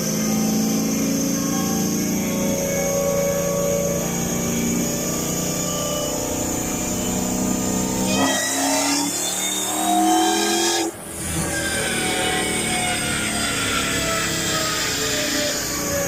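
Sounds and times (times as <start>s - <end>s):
supercharged engine revving: 0.0s - 16.0s.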